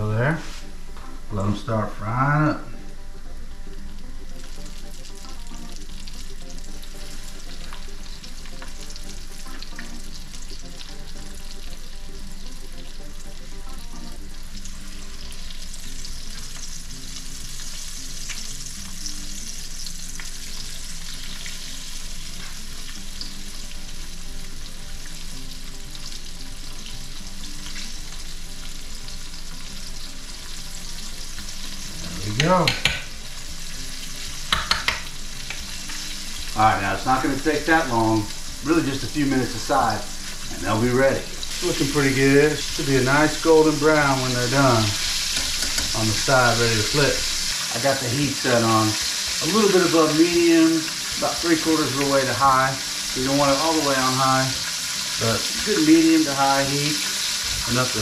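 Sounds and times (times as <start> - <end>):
steaks sizzling in skillet: 0.0 - 58.0.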